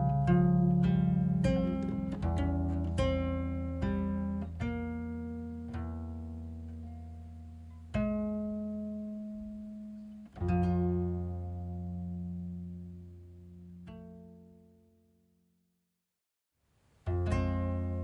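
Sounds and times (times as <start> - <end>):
slow plucked-string instrumental: 0.0 - 15.3, 17.0 - 18.0.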